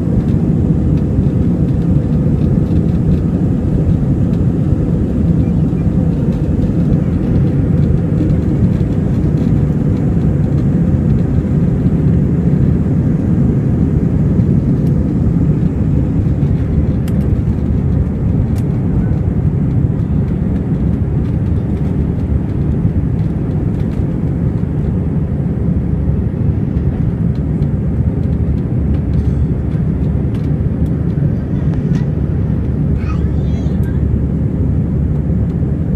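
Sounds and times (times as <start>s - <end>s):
jet engines rumbling in cabin: 0.0s - 35.9s.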